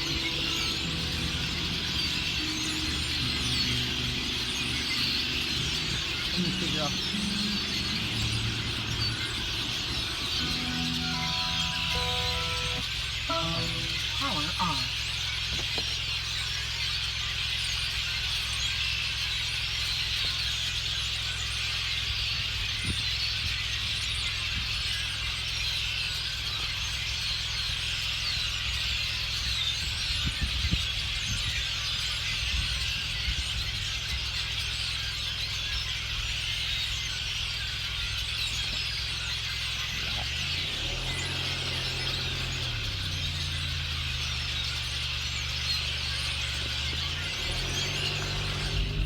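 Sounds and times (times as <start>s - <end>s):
flock of birds chirping: 0.0s - 49.0s.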